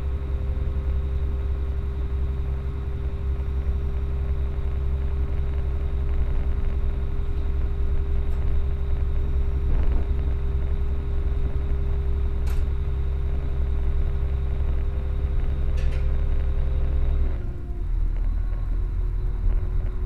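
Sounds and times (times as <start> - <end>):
constant hum: 0.0 - 20.0
train rumbling inside carriage: 0.0 - 20.0.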